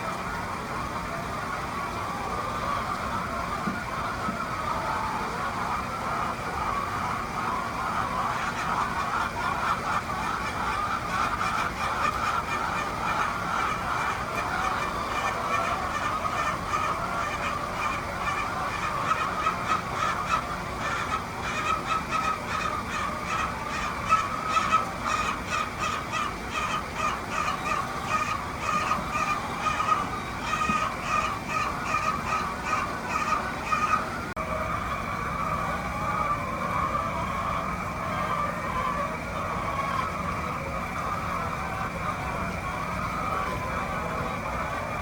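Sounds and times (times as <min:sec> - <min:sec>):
hens clucking: 0:00.0 - 0:45.0.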